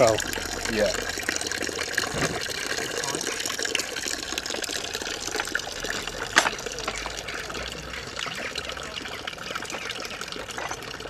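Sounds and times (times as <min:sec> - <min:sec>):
juice trickling into bucket: 0:00.0 - 0:11.0.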